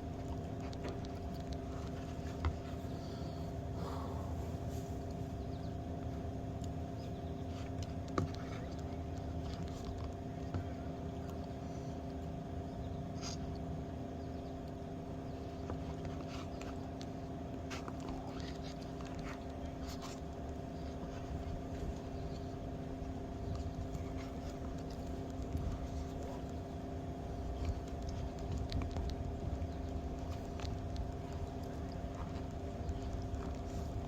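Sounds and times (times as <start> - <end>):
steady machine hum: 0.0 - 34.0
faint clicks and taps: 0.2 - 2.8, 6.0 - 12.3, 15.5 - 34.0.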